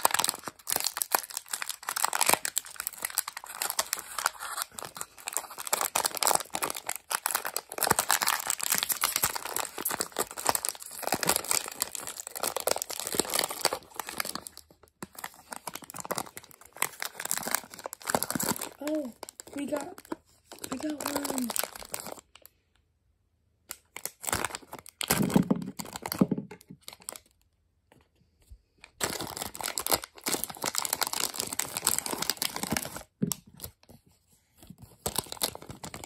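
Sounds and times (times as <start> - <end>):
plastic pouch crinkling and tearing: 0.0 - 22.5, 23.7 - 27.4, 28.9 - 33.8, 34.9 - 36.0.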